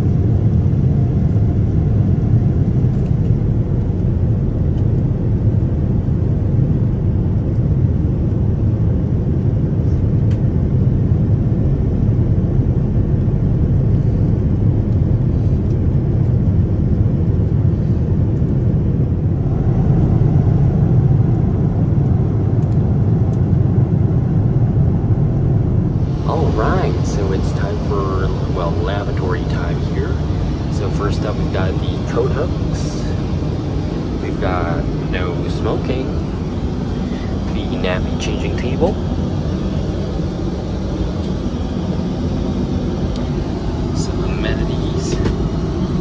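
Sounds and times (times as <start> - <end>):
airliner cabin noise: 0.0 - 46.0.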